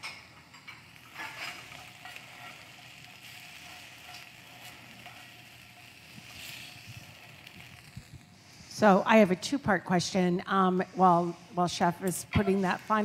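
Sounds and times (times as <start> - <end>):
food sizzling in a frying pan: 0.5 - 13.0.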